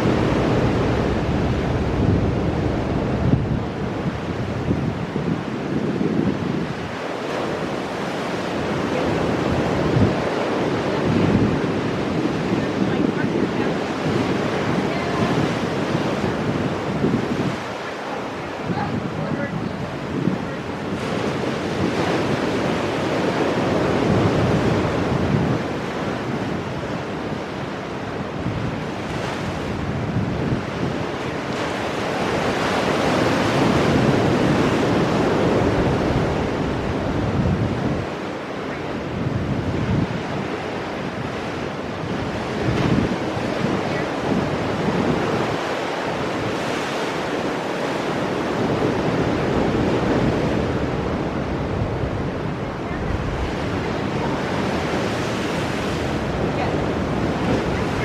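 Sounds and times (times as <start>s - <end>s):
waves breaking over rocks: 0.0s - 58.0s
wind buffeting microphone: 0.0s - 58.0s.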